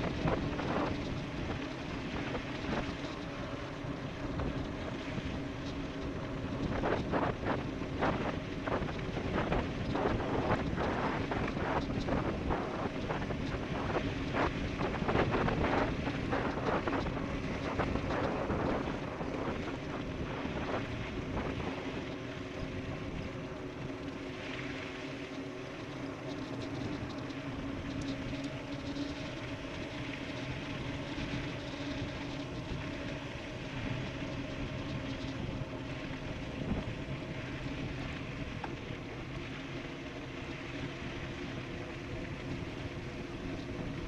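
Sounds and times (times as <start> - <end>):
steady hum: 0.0 - 44.0
wind buffeting microphone: 0.0 - 44.0.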